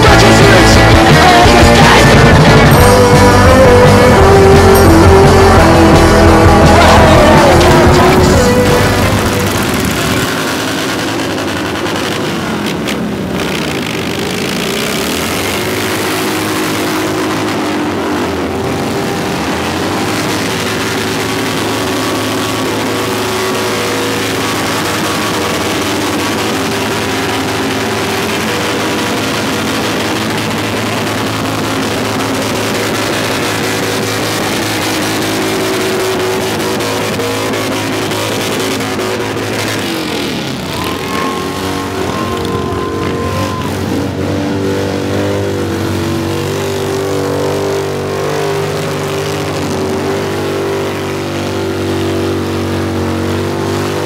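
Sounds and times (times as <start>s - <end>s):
motorcycle engines revving high: 0.0s - 54.0s.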